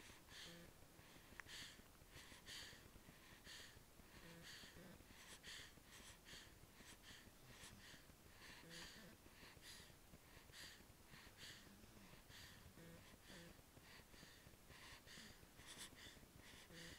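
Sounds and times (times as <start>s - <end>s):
baby breathing softly in sleep: 0.0s - 16.9s.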